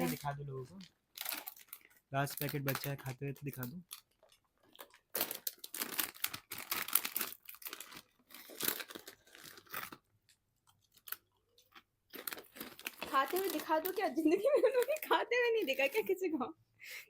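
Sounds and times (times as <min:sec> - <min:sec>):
snack packet crinkling: 0:00.0 - 0:16.2.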